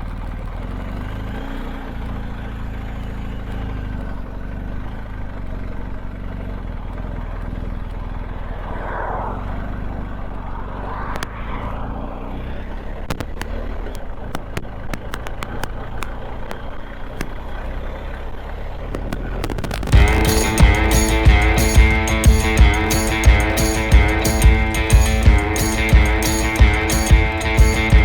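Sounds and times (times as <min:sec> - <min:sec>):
motorcycle engine running: 0:00.0 - 0:10.7, 0:15.4 - 0:28.0
road and wind noise: 0:00.0 - 0:28.0.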